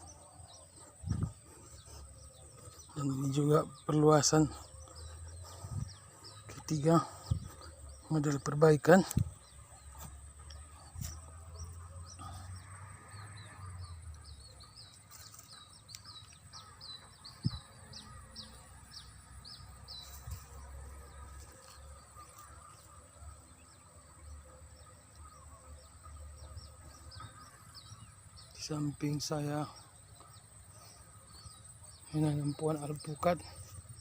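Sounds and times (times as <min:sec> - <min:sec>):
bird chirping: 0:00.0 - 0:34.0.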